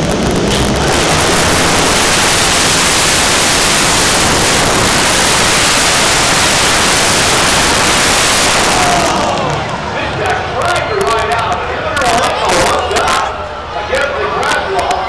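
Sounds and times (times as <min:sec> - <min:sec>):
motorcycles roaring at full throttle: 0:00.0 - 0:13.4.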